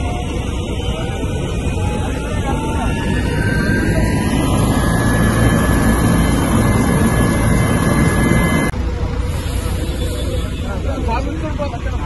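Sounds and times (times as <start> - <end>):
helicopter rumble: 0.0 - 12.0
high turbine whine: 0.0 - 12.0.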